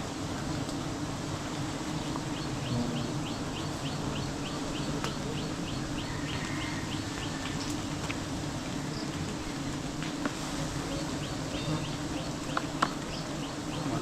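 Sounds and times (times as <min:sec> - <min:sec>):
honeybee swarm buzzing: 0:00.0 - 0:14.0.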